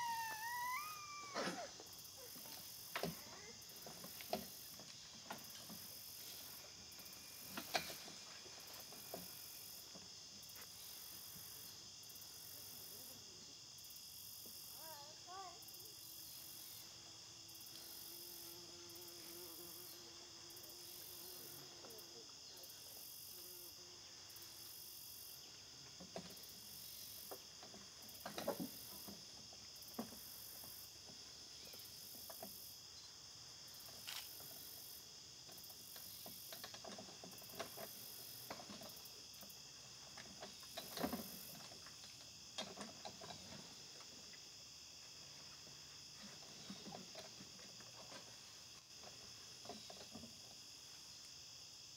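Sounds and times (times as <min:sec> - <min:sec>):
crickets and insects chorus: 0:00.0 - 0:51.9
pulsing insect chirping: 0:00.0 - 0:51.9.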